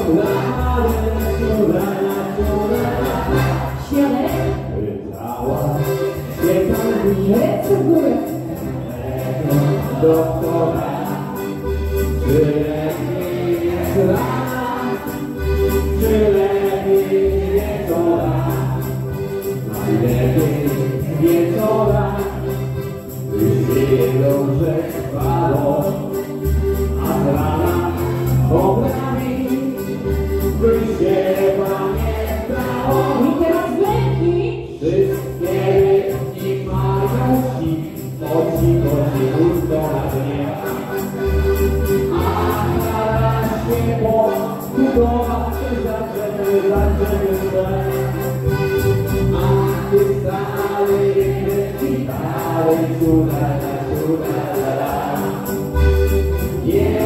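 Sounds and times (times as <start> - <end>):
several people singing: 0.0 - 7.4, 8.0 - 26.3, 26.9 - 57.0
accordion: 0.0 - 57.0
electric bass guitar: 0.0 - 57.0.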